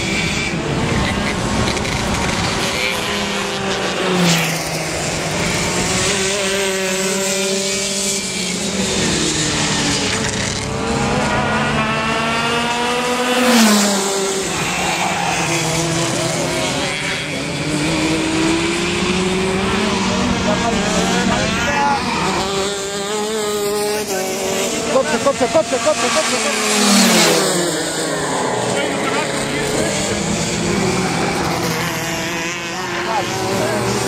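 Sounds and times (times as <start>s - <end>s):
kart engines revving: 0.0s - 34.0s
karts passing close by: 0.0s - 34.0s.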